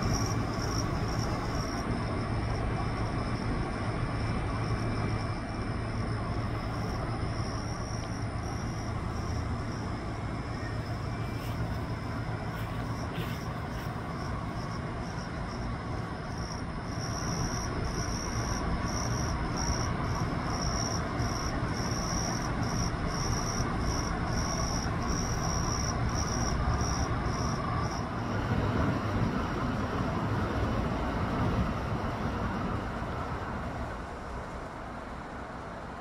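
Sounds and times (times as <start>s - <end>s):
crickets chirping: 0.0s - 36.0s
steady low rumble: 0.0s - 36.0s.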